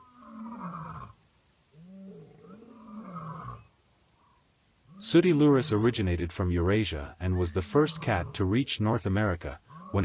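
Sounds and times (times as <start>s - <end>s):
faint insect chirps: 0.0s - 10.0s.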